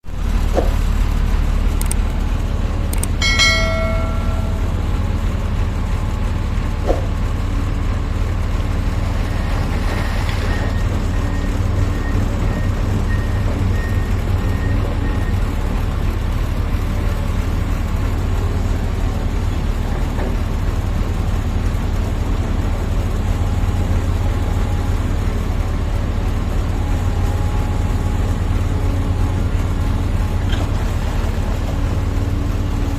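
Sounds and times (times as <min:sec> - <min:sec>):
excavator diesel engine rumbling: 0:00.0 - 0:32.9.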